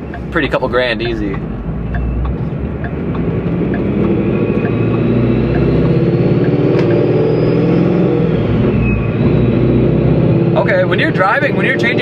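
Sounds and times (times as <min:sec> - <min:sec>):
car engine heard from cabin: 0:00.0 - 0:12.0.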